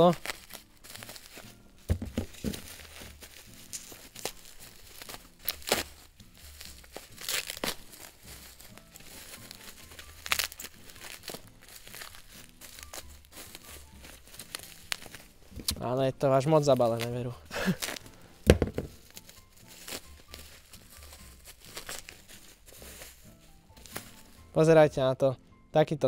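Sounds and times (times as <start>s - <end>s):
sharp crackles: 0.0s - 1.5s, 2.4s - 15.7s, 16.4s - 18.2s, 18.9s - 24.4s
packing tape tearing: 0.0s - 15.9s, 16.6s - 24.5s
bubble wrap crinkling: 0.0s - 24.6s.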